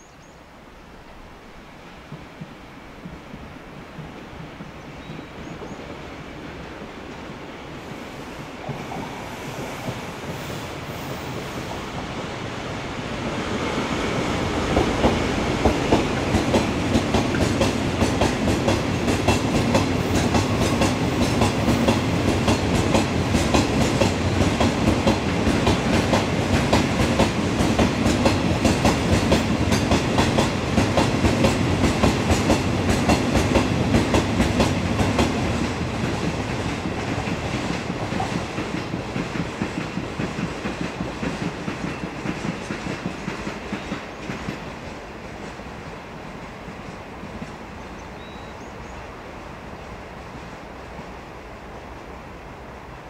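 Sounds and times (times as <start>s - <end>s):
freight train rumbling: 0.9s - 53.0s.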